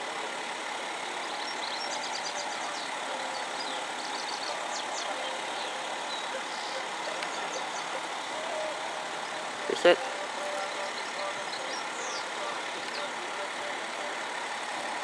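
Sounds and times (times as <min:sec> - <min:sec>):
distant road traffic hum: 0:00.0 - 0:15.0
small birds chirping: 0:00.6 - 0:15.0.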